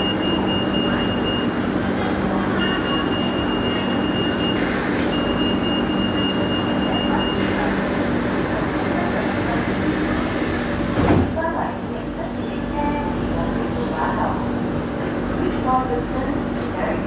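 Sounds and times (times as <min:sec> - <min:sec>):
light rail train rumbling: 0:00.0 - 0:17.0.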